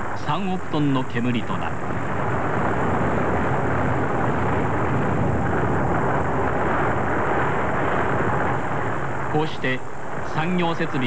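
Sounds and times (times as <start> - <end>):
forest fire rushing: 0.0 - 11.0.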